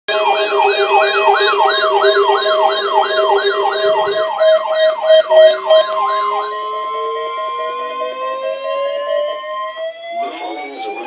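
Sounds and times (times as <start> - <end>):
electronic sirens warbling: 0.1 - 11.0
steady held tones: 0.1 - 11.0.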